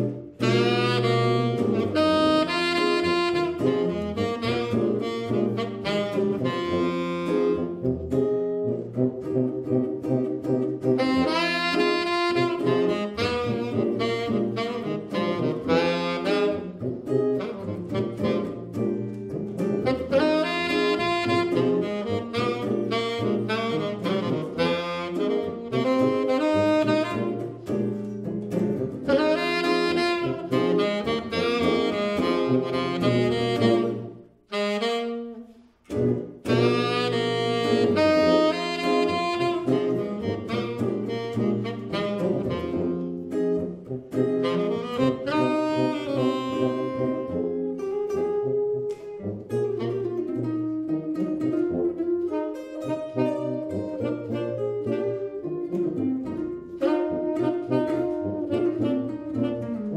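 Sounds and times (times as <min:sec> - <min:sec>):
electric guitar chords: 0:00.0 - 0:35.1, 0:35.8 - 0:59.9
saxophone melody: 0:00.0 - 0:59.9
tuba bass line: 0:00.0 - 0:59.9.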